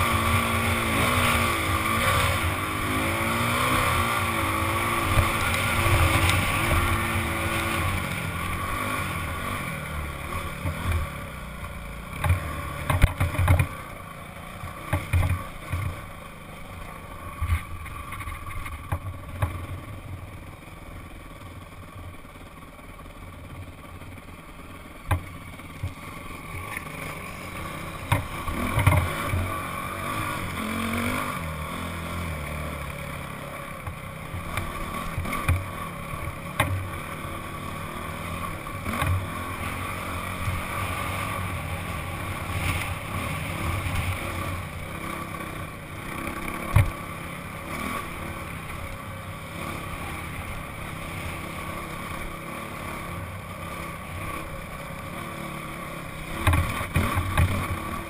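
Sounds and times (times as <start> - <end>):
dirt bike engine revving: 0.0 - 19.0, 25.5 - 58.0.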